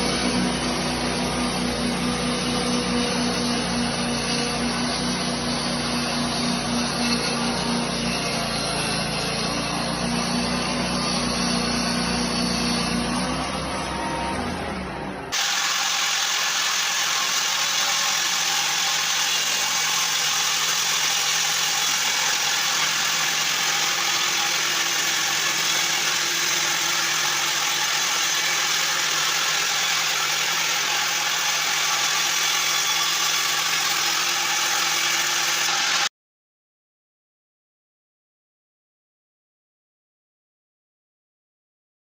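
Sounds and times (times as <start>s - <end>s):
sawmill running: 0.0s - 36.1s.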